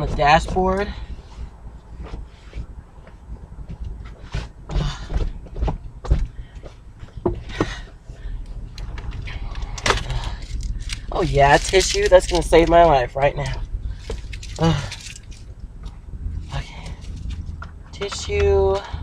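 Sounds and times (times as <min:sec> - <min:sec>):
objects being handled in car: 0:00.0 - 0:19.0
steady low hum: 0:00.0 - 0:19.0.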